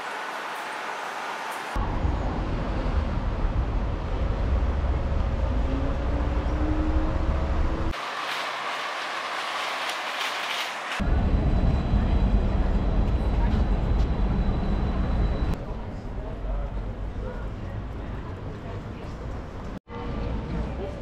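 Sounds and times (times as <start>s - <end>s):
hissing street noise: 0.0s - 21.0s.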